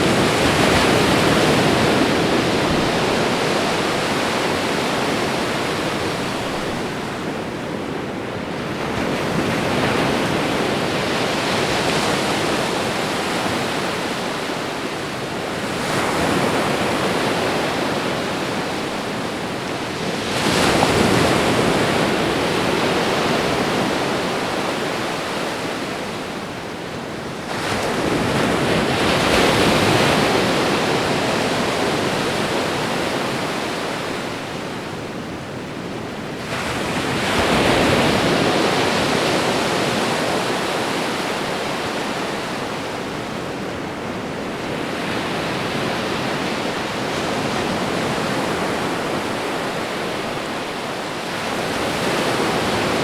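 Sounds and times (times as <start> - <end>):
ocean waves breaking on shore: 0.0 - 53.0.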